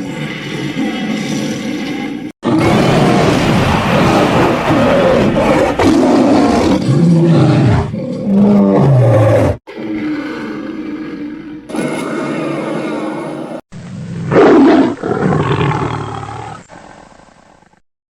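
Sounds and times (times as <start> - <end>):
dragon roars and growls: 0.0 - 17.1.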